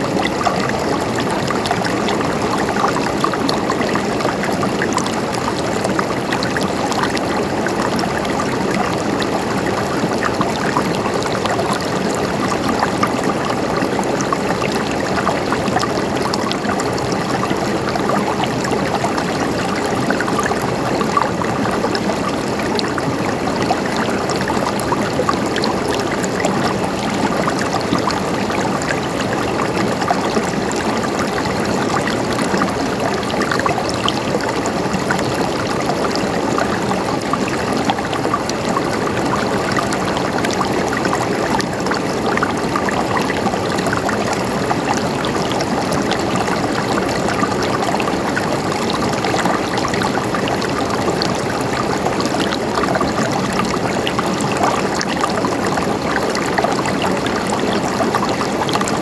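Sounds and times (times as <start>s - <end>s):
stream water flowing over rocks: 0.0s - 59.0s.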